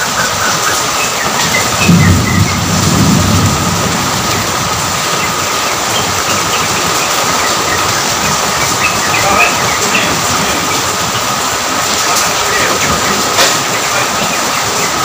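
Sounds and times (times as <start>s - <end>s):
heavy rain: 0.0s - 15.0s
low rumble of thunder: 1.2s - 15.0s.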